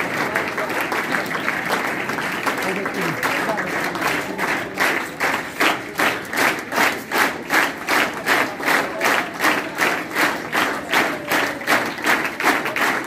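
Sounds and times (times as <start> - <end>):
crowd clapping in rhythm: 0.0 - 13.0.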